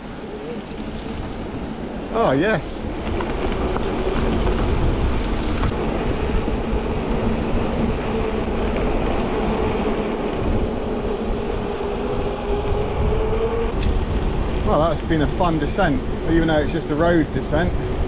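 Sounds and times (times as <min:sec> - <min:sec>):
tyres rumbling on road: 0:00.0 - 0:18.0
wind buffeting microphone: 0:00.0 - 0:18.0.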